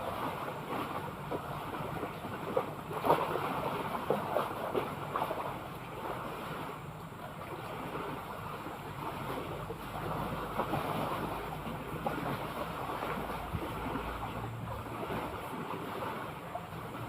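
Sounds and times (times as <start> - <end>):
sea waves washing: 0.0 - 17.0.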